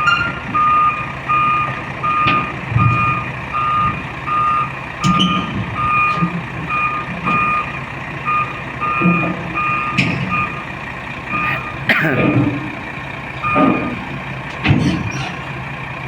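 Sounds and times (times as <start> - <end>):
reversing alarm beeping: 0.0 - 14.4
diesel engine running: 0.0 - 16.0.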